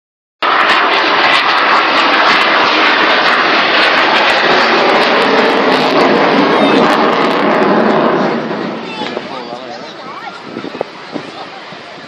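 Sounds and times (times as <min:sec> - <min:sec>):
large aircraft flying over: 0:00.4 - 0:12.0.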